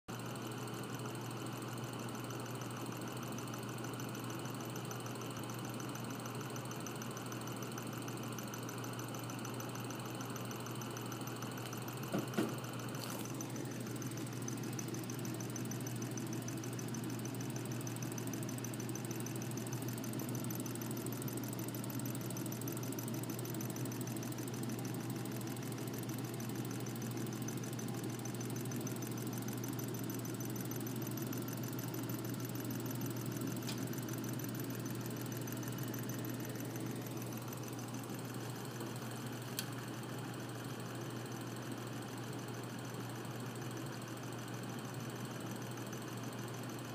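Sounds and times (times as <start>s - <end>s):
solenoid engine clicking: 0.1s - 46.9s.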